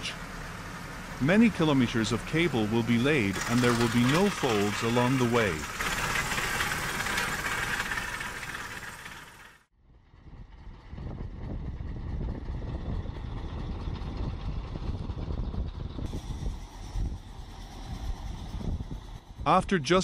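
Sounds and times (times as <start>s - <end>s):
heavy truck engine running: 0.0s - 19.6s
bulldozer engine working: 0.0s - 20.0s.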